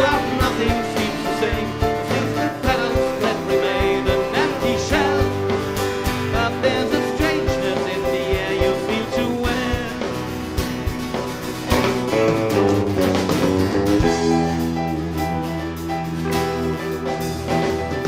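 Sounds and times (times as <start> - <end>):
live folk-rock band playing: 0.0 - 18.0.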